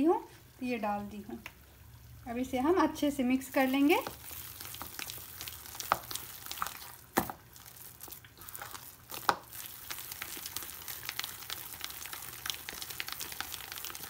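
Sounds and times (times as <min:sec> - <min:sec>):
hand mixing sticky batter: 0:02.5 - 0:14.0.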